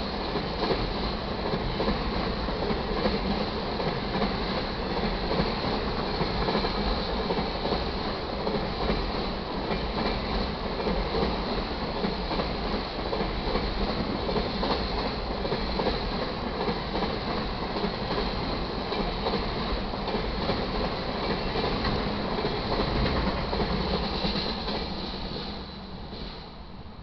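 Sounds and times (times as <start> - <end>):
freight train wheels rumbling on rails: 0.0 - 27.0.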